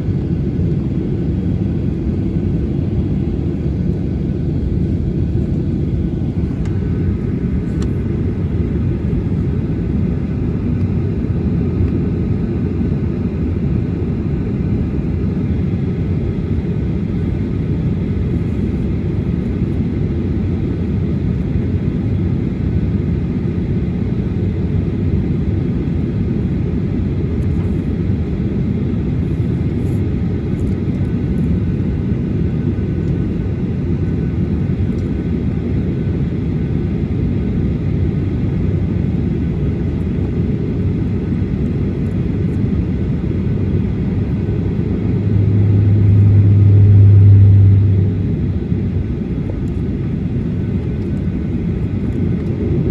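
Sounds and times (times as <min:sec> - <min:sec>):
jet engine deep rumble: 0:00.0 - 0:52.9.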